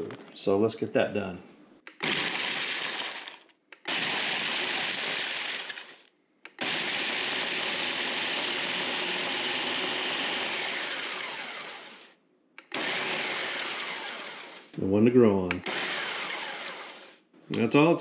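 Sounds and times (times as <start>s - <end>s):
food processor crushing wafers: 1.9s - 14.8s, 15.5s - 17.1s.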